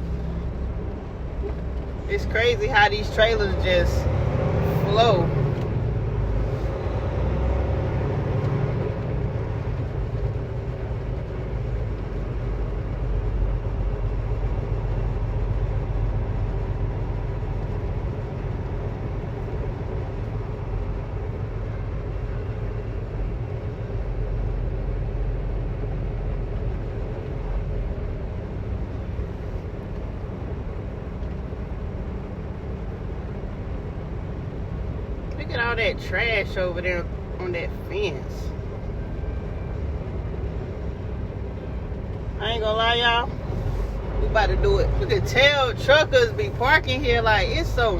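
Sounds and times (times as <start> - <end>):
diesel truck engine drone: 0.0 - 47.9.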